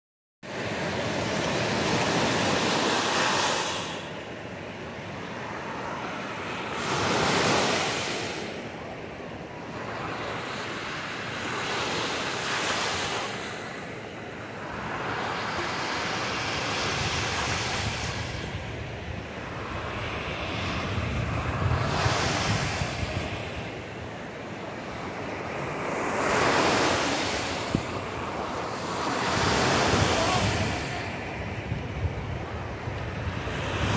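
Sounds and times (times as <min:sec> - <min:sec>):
waves crashing on sand: 0:00.4 - 0:33.9.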